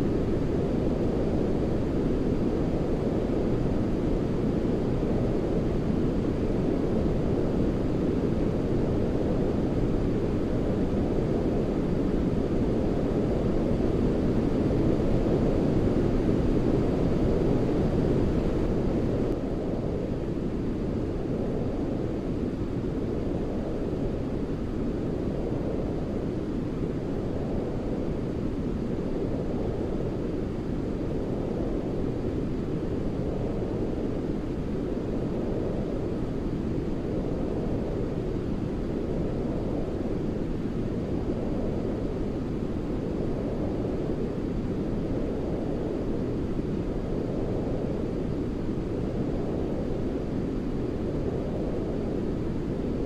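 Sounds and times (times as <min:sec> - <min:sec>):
low white noise: 0:00.0 - 0:53.0.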